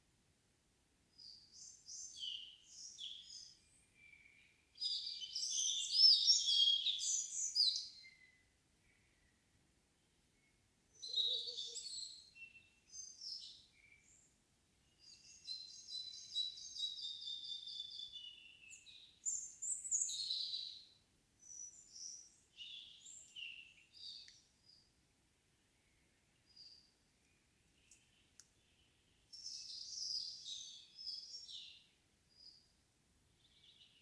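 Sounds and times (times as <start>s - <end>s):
songbirds singing: 1.2s - 34.0s.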